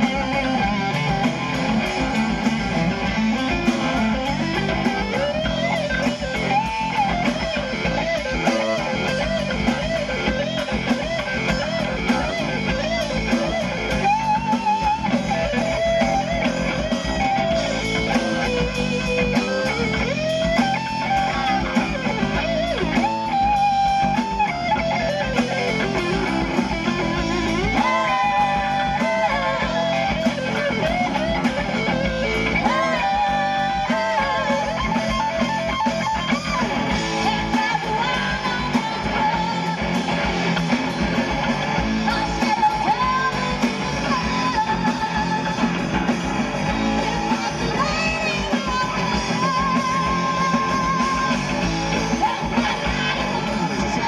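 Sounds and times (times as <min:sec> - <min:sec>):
drums: 0:00.0 - 0:54.0
electric guitar melody: 0:00.0 - 0:54.0.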